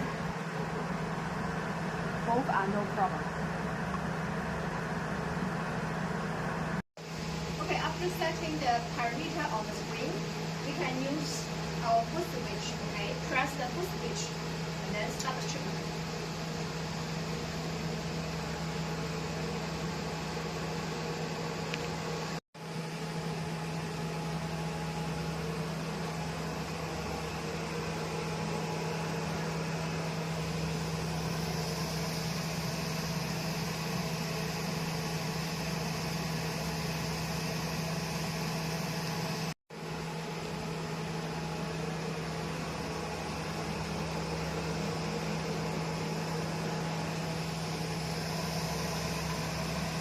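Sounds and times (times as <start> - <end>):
machine humming with fan hiss: 0.0 - 50.0.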